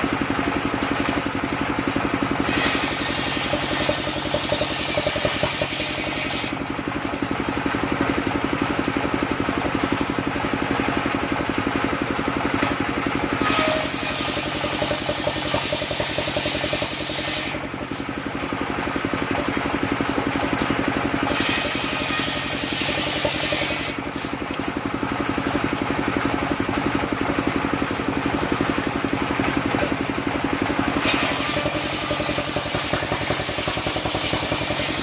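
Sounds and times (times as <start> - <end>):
sawmill engine running: 0.0 - 35.0.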